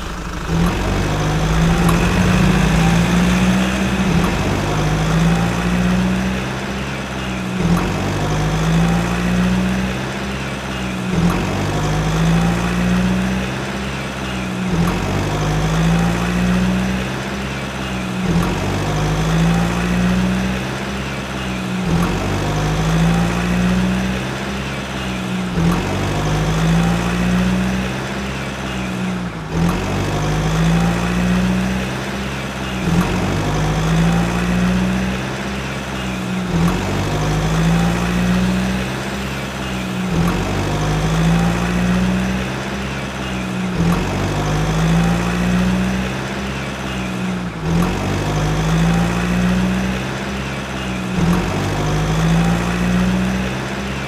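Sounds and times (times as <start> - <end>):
toy tractor engine sound effect: 0.0 - 54.0.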